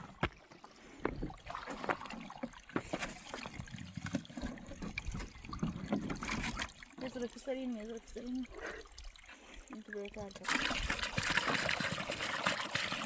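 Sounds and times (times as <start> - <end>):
knocks and clatter in water: 0.0 - 7.9, 10.1 - 13.0
water splashing and trickling: 0.0 - 13.0.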